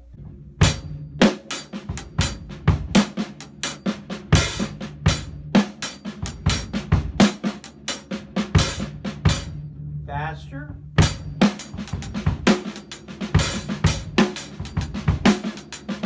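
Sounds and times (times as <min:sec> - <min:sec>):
bass drum: 0:00.0 - 0:16.0
hi-hat swing rhythm: 0:00.0 - 0:16.0.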